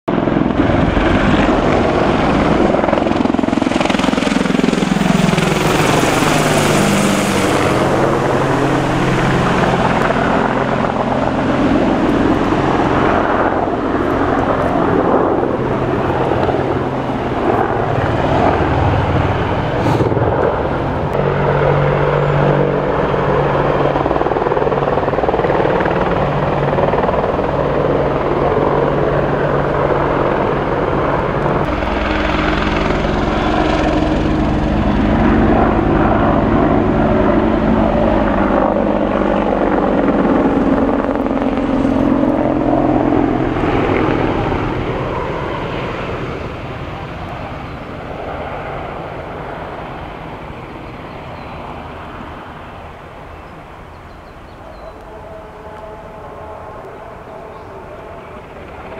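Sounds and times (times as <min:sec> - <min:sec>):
helicopter rotor drone: 0:00.1 - 0:58.9.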